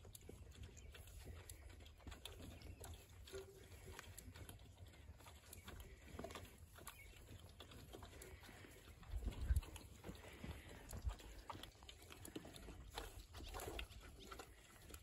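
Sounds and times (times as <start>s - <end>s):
pigs crunching feed: 0.0s - 15.0s.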